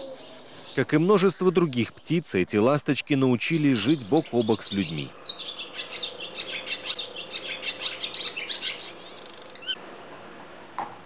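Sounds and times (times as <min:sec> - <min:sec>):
swallows twittering: 0:00.0 - 0:09.8.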